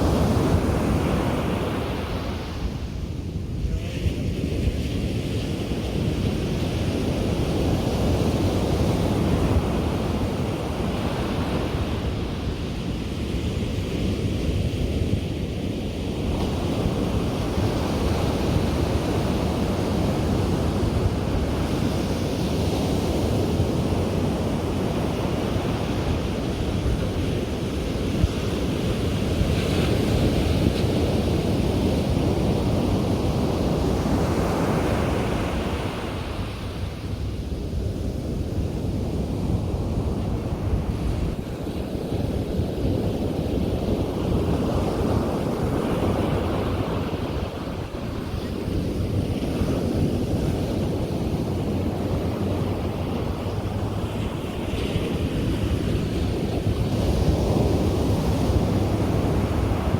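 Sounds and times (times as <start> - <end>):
ocean surf breaking on beach: 0.0 - 59.9
wind buffeting microphone: 0.0 - 59.9.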